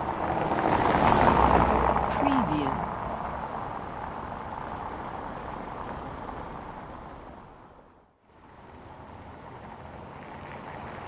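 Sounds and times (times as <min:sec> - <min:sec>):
car passing on concrete road: 0:00.0 - 0:11.0.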